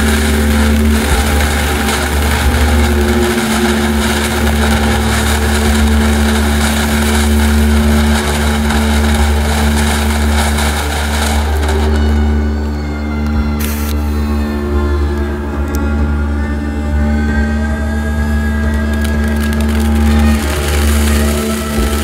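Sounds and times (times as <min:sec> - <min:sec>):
firework fountain hissing: 0:00.0 - 0:15.1, 0:18.5 - 0:22.0.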